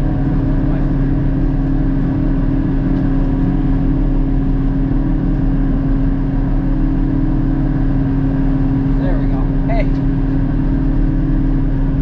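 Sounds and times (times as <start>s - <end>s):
constant machine tone: 0.0s - 12.0s
forage harvester running: 0.0s - 12.0s.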